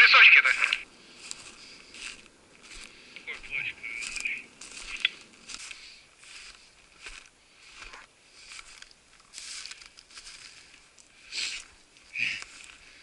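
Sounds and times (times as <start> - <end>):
footsteps crunching through snow: 0.1 - 13.0.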